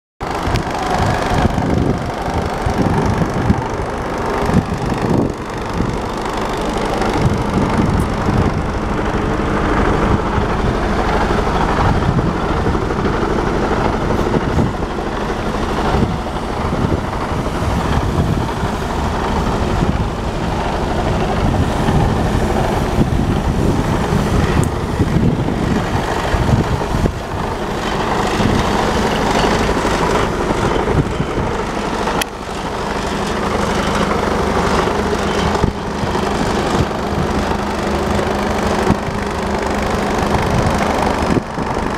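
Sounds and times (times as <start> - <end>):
diesel engine idling: 0.2 - 41.9.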